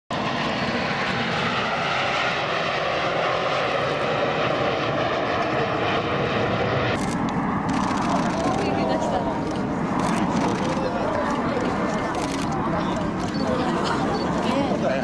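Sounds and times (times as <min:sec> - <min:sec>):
jet aircraft flying past: 0:00.1 - 0:15.0.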